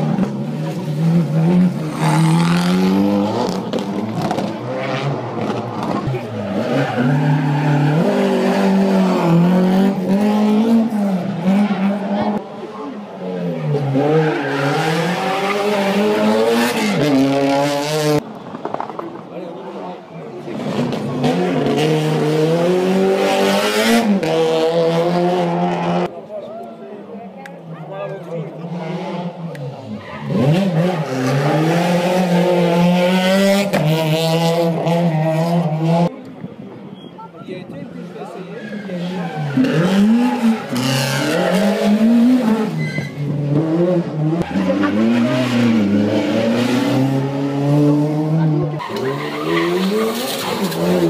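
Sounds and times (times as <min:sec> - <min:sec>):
rally car engine revving: 0:00.0 - 0:18.2, 0:20.4 - 0:26.1, 0:28.5 - 0:36.1, 0:38.6 - 0:51.0.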